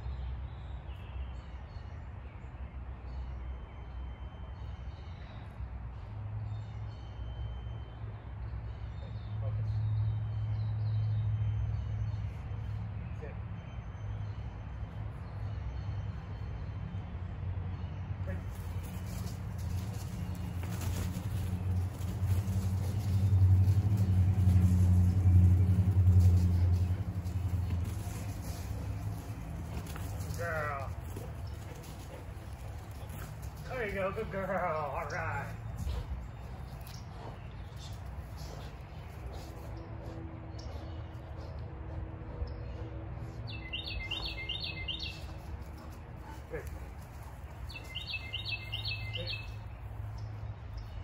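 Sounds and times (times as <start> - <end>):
low engine hum: 3.4 - 51.0.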